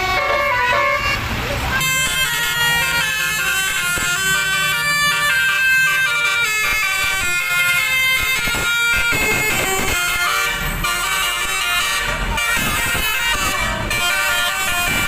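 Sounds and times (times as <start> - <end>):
multi-tone air horn melody: 0.0 - 15.0
road noise: 0.0 - 15.0
vehicle engine: 0.0 - 15.0.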